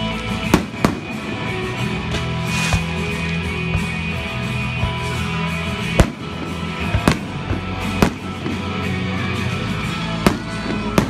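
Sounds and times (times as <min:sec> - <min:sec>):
music with guitar: 0:00.0 - 0:11.0.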